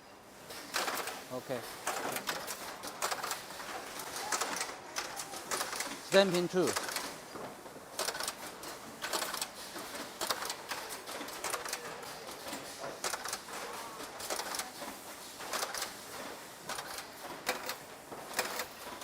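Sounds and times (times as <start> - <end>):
factory background noise: 0.0 - 19.0
stamping machines clacking: 0.5 - 19.0.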